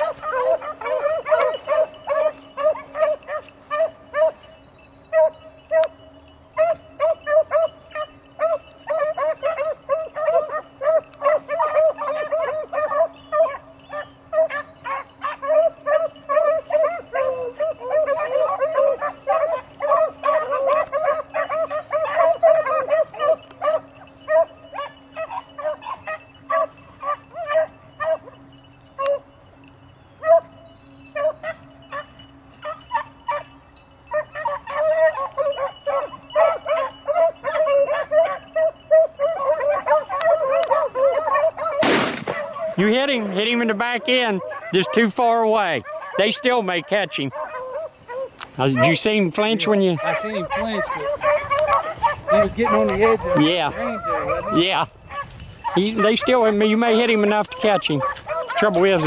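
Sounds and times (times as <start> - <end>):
pack of hounds baying: 0.0 - 59.0.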